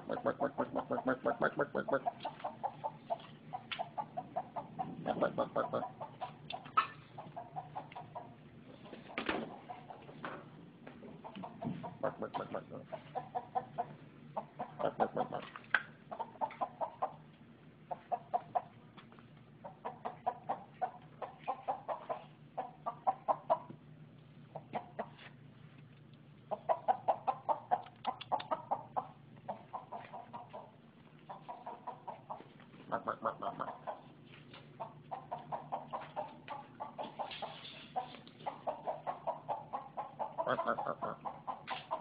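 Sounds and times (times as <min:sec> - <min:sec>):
chicken clucking: 0:00.0 - 0:23.9, 0:24.5 - 0:42.0
faint low hum: 0:00.0 - 0:42.0.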